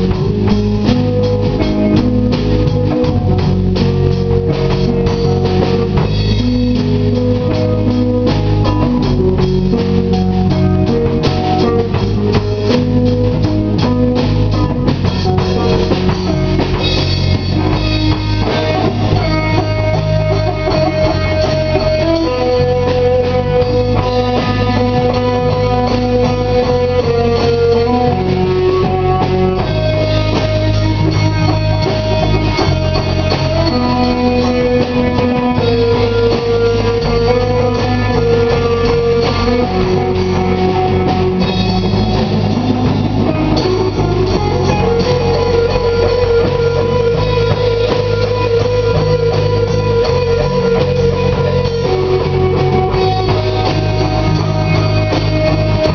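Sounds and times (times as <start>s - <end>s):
drums: 0.0s - 55.9s
electric guitar sustained notes: 0.0s - 55.9s
heavy bass low end: 0.0s - 55.9s.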